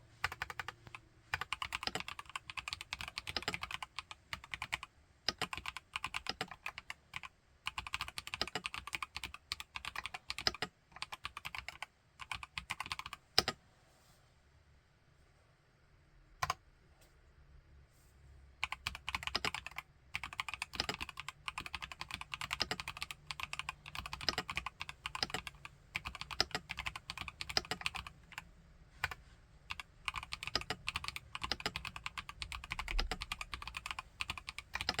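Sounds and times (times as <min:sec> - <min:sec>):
mechanical keyboard typing: 0:00.2 - 0:13.6, 0:18.6 - 0:35.0.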